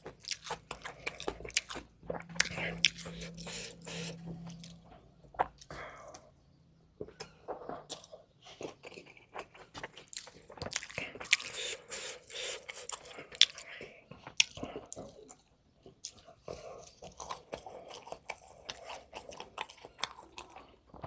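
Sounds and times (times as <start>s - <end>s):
person chewing crunchy food: 0.0s - 6.4s, 7.0s - 21.0s.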